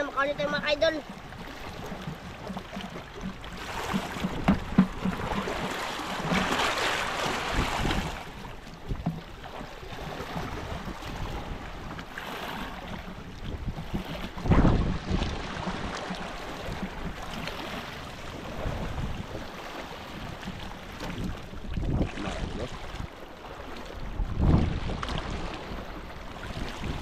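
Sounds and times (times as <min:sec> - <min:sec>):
knocks and thump on boat: 0:00.0 - 0:27.0
water lapping against boat: 0:00.0 - 0:27.0
wind buffeting microphone: 0:00.0 - 0:27.0.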